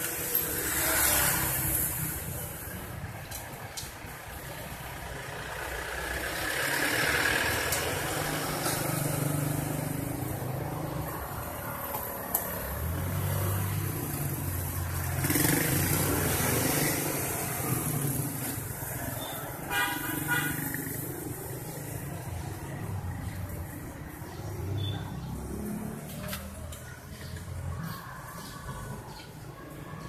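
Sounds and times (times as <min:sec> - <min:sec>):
motorbike and car engines passing: 0:00.0 - 0:30.0
street traffic: 0:00.0 - 0:30.0.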